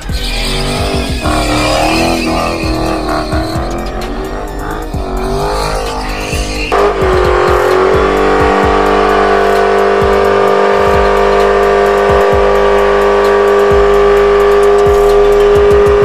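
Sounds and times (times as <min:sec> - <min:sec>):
car engine at high revs: 0:00.0 - 0:16.0
car engine revving: 0:00.0 - 0:16.0.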